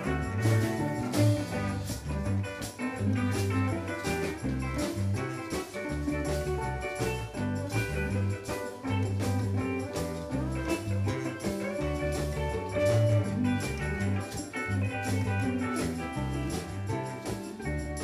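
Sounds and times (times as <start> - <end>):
live reggae band: 0.0 - 18.0.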